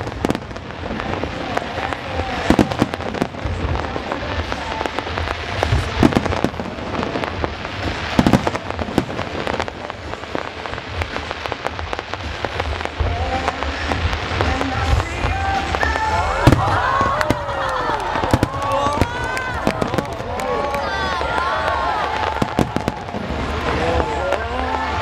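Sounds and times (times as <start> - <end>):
fireworks bangs: 0.0 - 25.0
fireworks booms: 0.0 - 25.0
fireworks crackling: 0.0 - 25.0.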